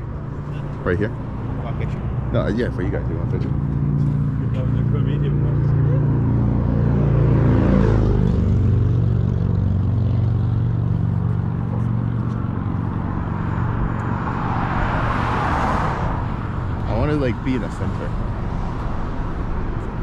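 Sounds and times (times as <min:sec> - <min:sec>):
vehicle engines running: 0:00.0 - 0:20.0
vehicle passing rush: 0:00.0 - 0:20.0.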